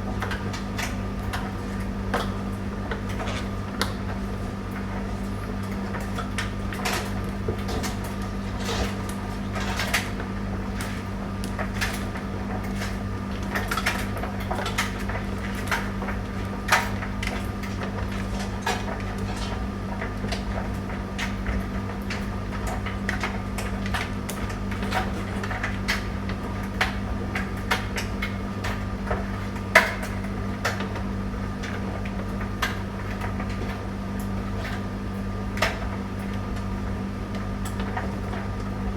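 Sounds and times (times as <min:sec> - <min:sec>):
tumble dryer motor hum: 0:00.0 - 0:38.9.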